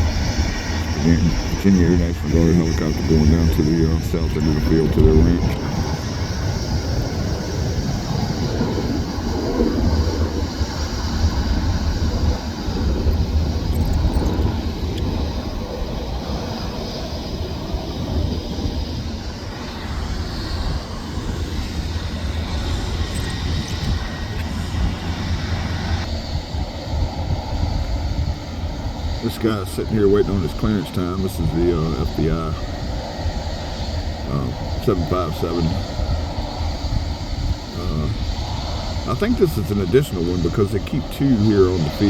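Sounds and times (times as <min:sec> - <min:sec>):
aircraft engines rumbling: 0:00.0 - 0:42.0
faint high whine: 0:00.0 - 0:42.0.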